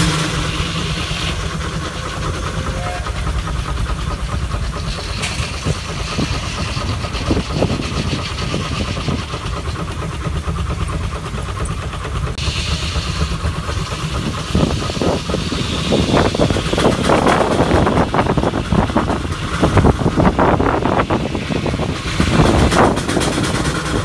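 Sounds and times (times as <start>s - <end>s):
high steam hiss: 0.0s - 24.0s
steam engine running: 0.0s - 24.0s.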